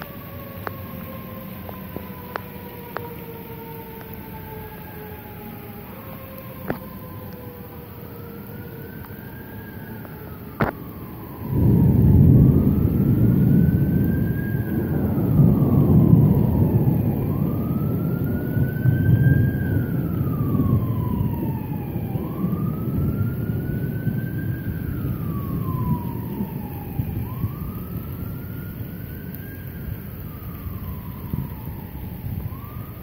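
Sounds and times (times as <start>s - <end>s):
emergency siren wailing: 0.0s - 33.0s
thunder rumbling: 0.0s - 33.0s.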